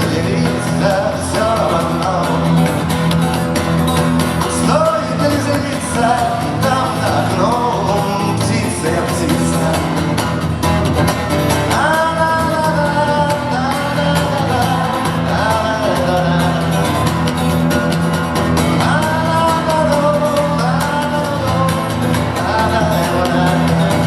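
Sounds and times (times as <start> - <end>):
live instrumental rock music: 0.0 - 24.0.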